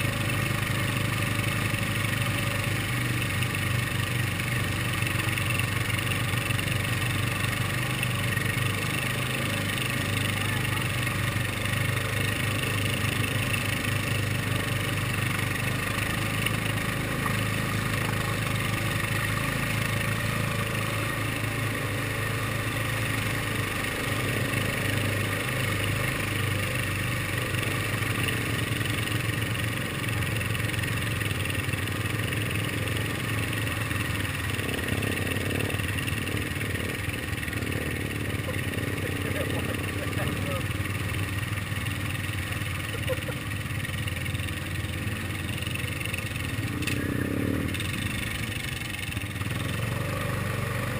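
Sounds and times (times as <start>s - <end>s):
atv engine running at low throttle: 0.0s - 50.9s.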